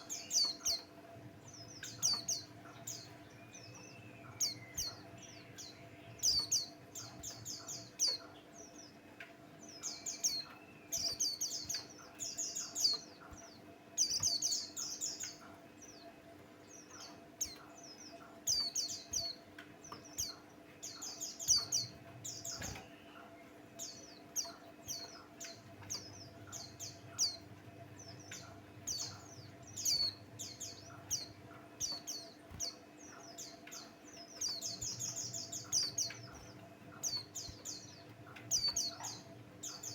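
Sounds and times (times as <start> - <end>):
bird chirping: 0.0 - 39.9
faint steady hum: 0.0 - 39.9.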